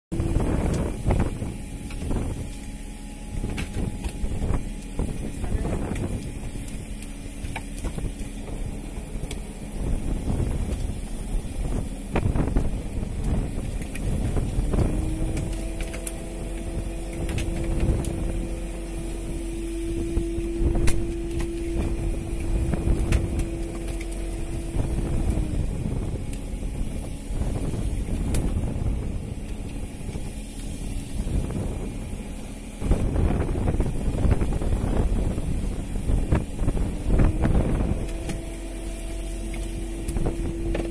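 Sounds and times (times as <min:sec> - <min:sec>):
boat engine running: 0:00.1 - 0:40.9
line hauler mechanical whine: 0:00.1 - 0:40.9
sea noise: 0:00.1 - 0:40.9
wind: 0:00.1 - 0:40.9.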